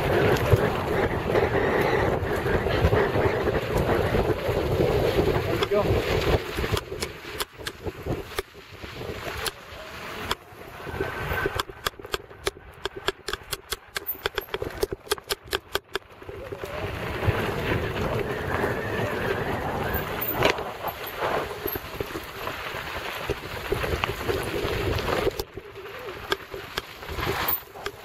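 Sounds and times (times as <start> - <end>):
wind rushing on microphone: 0.0 - 13.3, 14.3 - 28.0
bike rattling over rough ground: 0.0 - 28.0
bike tyre and trail noise: 0.0 - 28.0.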